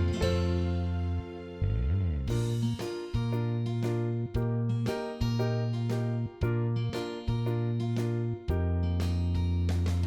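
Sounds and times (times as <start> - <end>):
light instrumental keyboard tune: 0.0 - 10.0.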